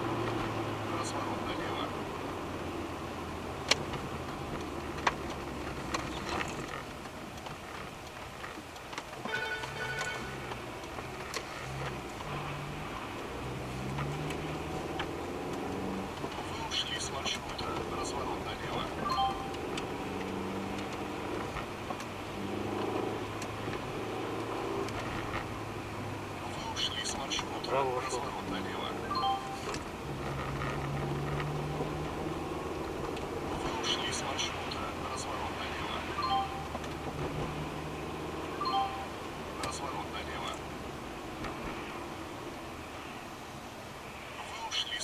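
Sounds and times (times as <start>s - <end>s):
engine and road hum: 0.0s - 45.0s.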